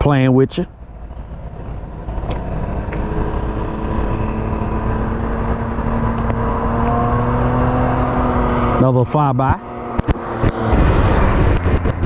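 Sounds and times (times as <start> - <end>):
trike engine passing by: 0.0 - 12.0.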